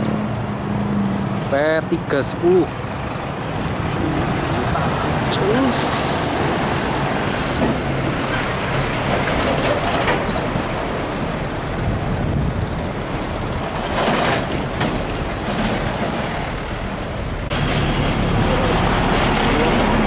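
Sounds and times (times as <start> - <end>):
truck diesel engine pulling away: 0.0 - 20.0
tyre and road noise: 0.0 - 20.0.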